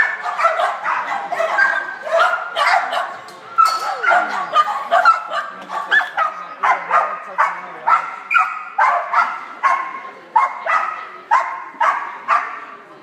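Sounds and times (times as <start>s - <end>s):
dog barking: 0.0s - 3.2s, 3.9s - 12.7s.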